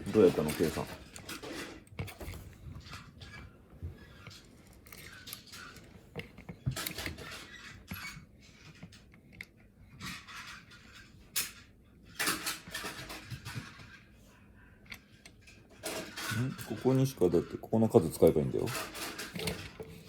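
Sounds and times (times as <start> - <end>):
rustling and scraping objects: 0.0 - 20.0.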